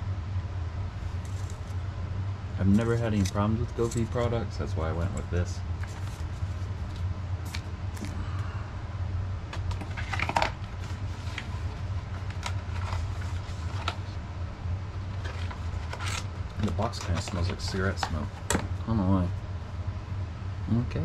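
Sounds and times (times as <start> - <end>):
furnace humming: 0.0 - 21.0.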